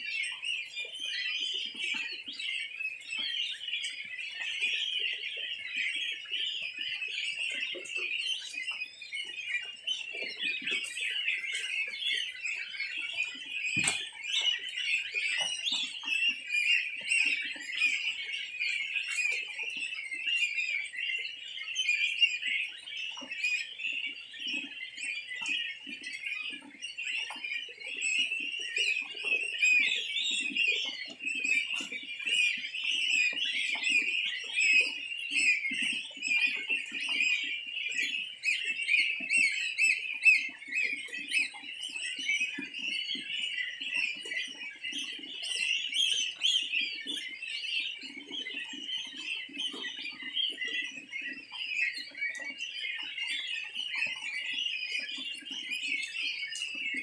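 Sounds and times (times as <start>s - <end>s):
goslings peeping: 0.0s - 57.0s.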